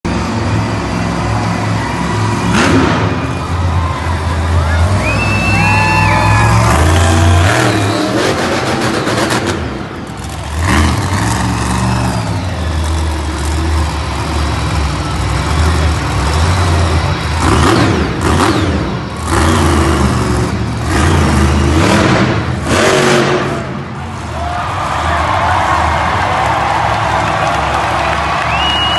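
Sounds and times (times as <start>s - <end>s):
monster truck engine revving: 0.1s - 28.9s.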